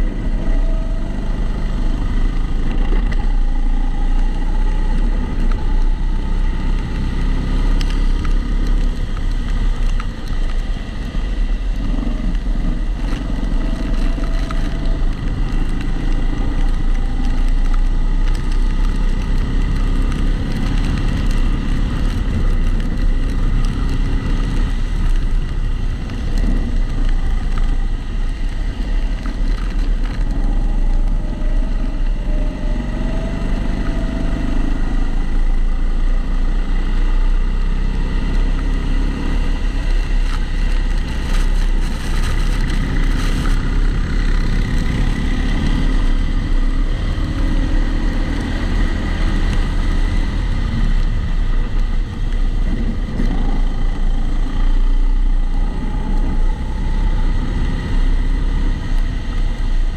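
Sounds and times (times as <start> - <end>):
kart engine at speed: 0.0 - 59.9
steady rumble: 0.0 - 59.9.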